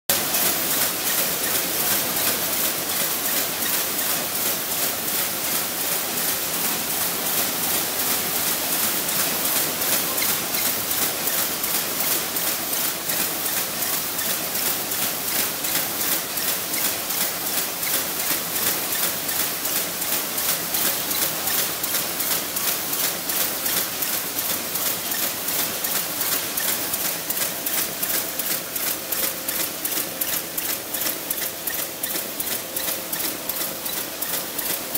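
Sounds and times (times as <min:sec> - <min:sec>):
machine clattering with sharp strokes: 0:00.1 - 0:34.9.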